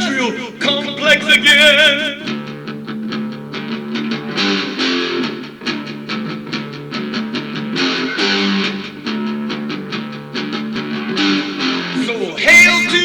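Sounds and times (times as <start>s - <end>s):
strummed electric guitar: 0.0s - 13.0s.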